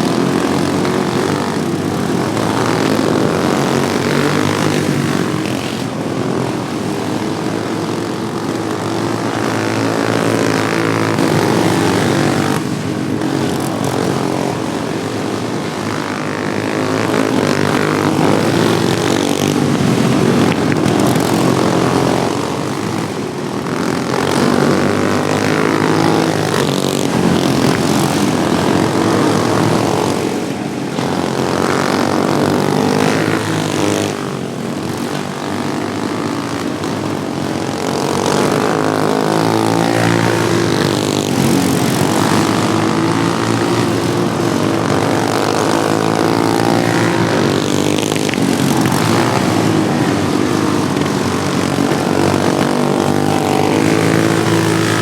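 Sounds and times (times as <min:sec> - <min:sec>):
racing lawnmower engines buzzing: 0:00.0 - 0:55.0.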